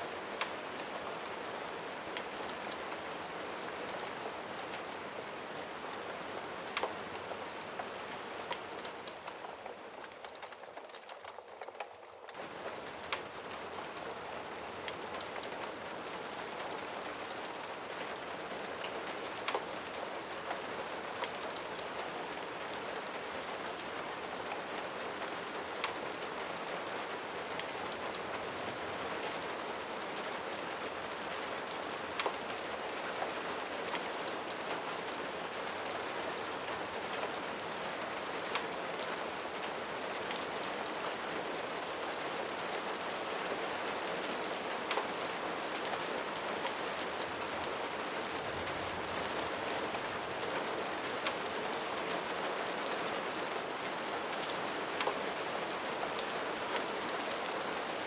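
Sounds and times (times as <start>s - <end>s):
steady rain on a surface: 0.0s - 58.0s.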